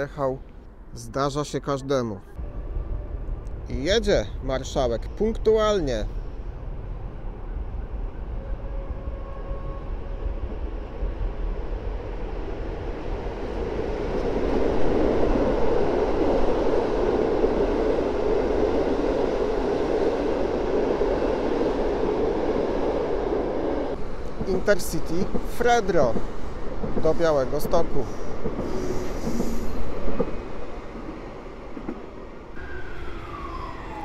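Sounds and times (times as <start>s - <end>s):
train wheels rumbling on rails: 2.4s - 34.0s.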